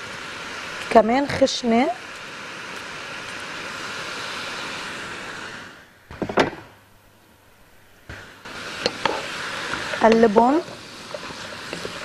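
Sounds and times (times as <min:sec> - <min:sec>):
food sizzling in a pot: 0:00.0 - 0:06.0, 0:08.1 - 0:12.0.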